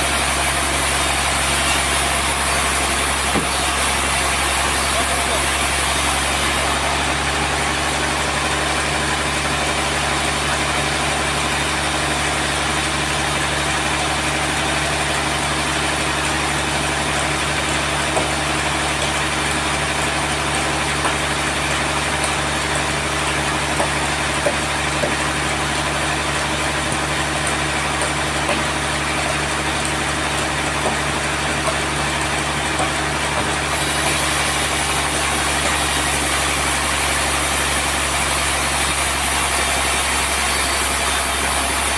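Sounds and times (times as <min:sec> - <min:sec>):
sawmill machinery drone: 0:00.0 - 0:41.9.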